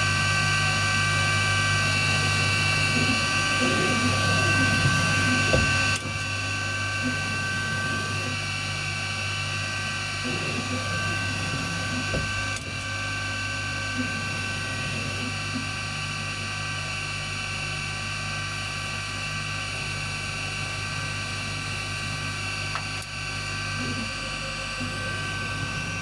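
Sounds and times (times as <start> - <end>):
lathe motor hum and whine: 0.0 - 26.0.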